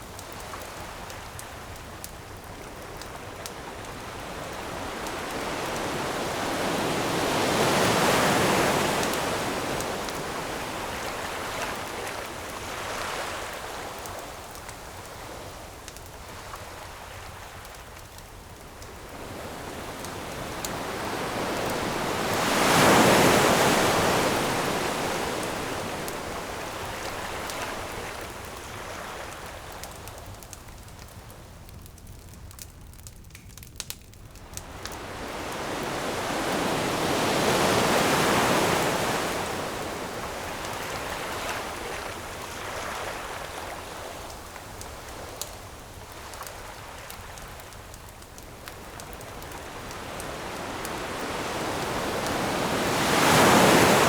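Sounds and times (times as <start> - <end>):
campfire crackles and pops: 0.0 - 54.0
ocean waves on beach: 2.8 - 17.8, 18.7 - 30.0, 34.4 - 54.0.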